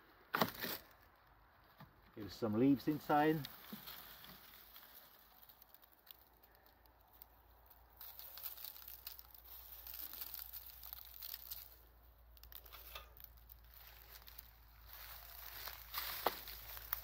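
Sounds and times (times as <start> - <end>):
wooden frames crackling and scraping: 0.3 - 17.0.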